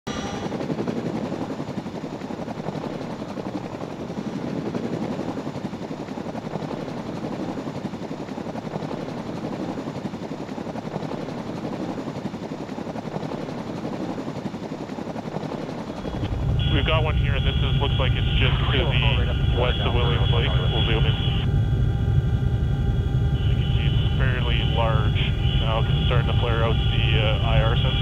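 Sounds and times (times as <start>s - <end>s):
helicopter rotor beating: 0.1s - 28.0s.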